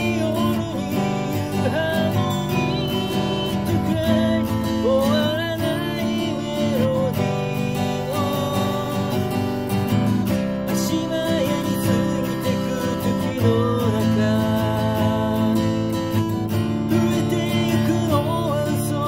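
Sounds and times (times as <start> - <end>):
acoustic guitar strumming: 0.0 - 19.0
person singing: 0.0 - 19.0.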